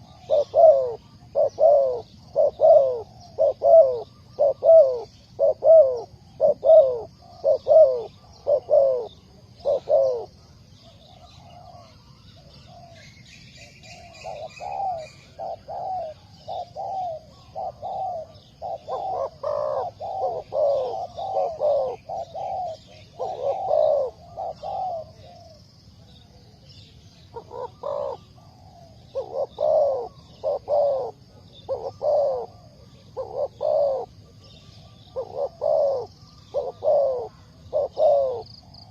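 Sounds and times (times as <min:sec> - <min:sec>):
dove cooing: 0:00.0 - 0:38.9
faint high-pitched hiss: 0:00.0 - 0:38.9
small bird chirping: 0:00.0 - 0:38.9.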